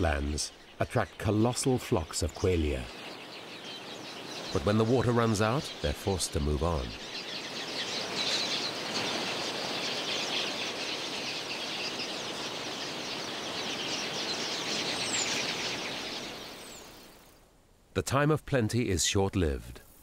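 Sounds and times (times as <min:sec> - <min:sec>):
flock of birds twittering: 0:00.0 - 0:17.4.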